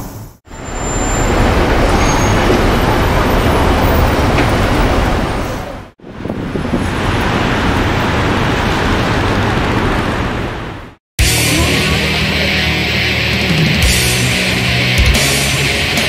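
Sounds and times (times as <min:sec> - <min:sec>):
busy city street traffic: 0:00.0 - 0:16.0.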